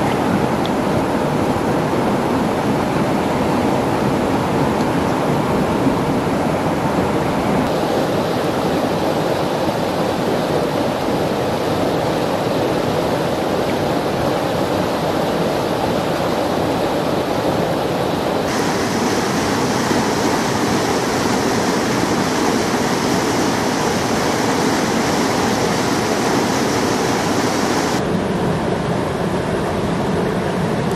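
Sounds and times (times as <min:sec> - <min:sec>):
water rushing over rocks: 0:00.0 - 0:28.1.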